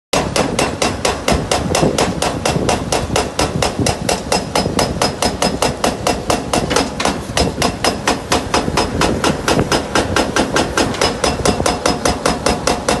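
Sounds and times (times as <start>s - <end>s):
hydraulic breaker hammering concrete: 0.1s - 13.0s.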